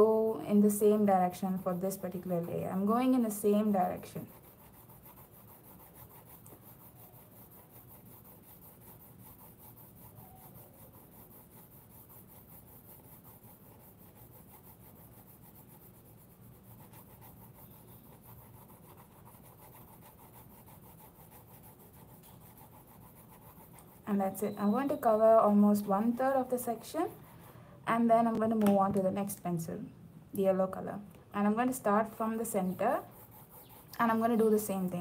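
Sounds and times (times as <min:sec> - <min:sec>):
colored pencil scratching paper: 0:00.0 - 0:28.4, 0:31.5 - 0:35.0.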